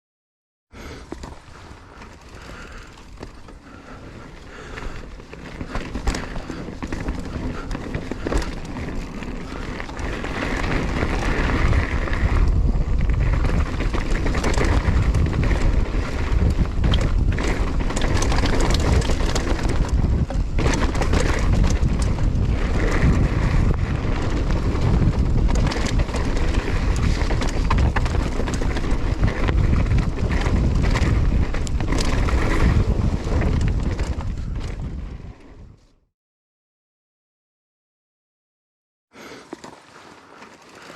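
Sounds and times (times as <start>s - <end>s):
wind buffeting microphone: 2.3s - 35.8s.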